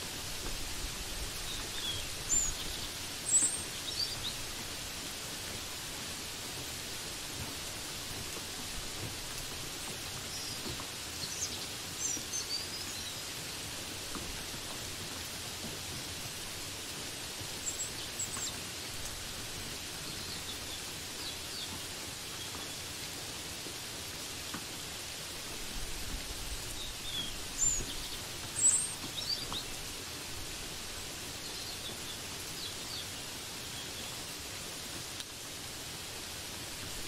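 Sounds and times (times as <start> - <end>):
rain hissing: 0.0 - 37.0.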